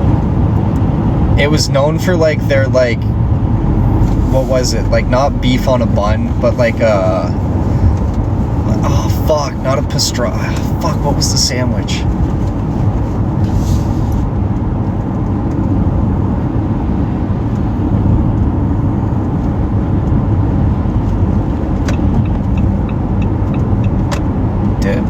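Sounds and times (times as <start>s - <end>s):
car driving interior rumble: 0.0s - 25.0s.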